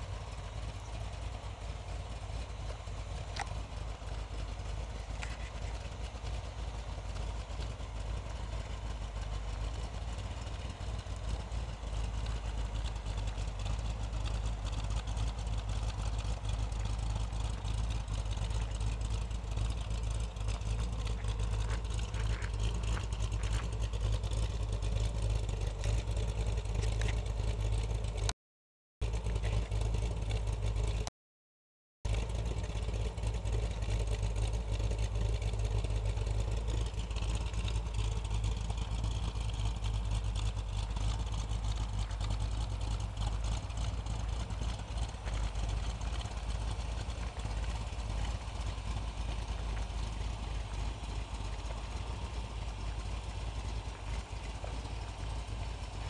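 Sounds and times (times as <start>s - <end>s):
car engine idling: 0.0s - 28.4s, 29.0s - 31.1s, 32.0s - 56.0s.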